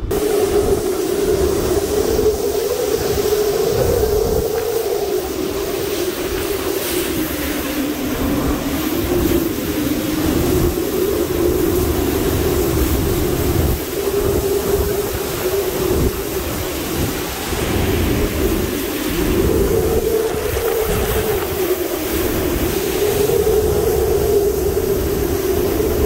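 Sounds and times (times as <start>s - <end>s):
deep buffeting rumble: 0.0s - 26.0s
hurricane wind howling: 0.0s - 26.0s.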